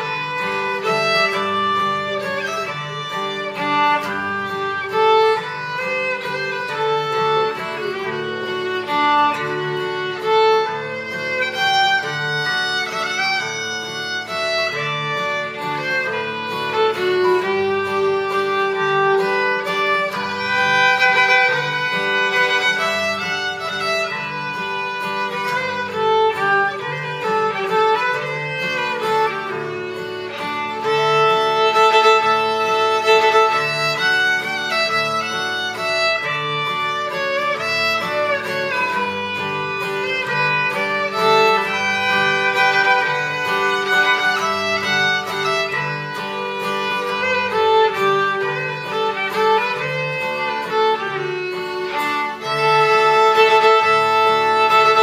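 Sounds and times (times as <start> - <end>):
acoustic guitar rhythm: 0.0 - 55.0
fiddle playing a tune: 0.0 - 55.0.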